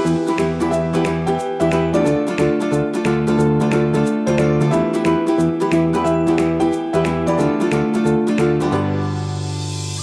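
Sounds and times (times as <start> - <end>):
clapping beat: 0.0 - 8.8
ukulele music: 0.0 - 9.6.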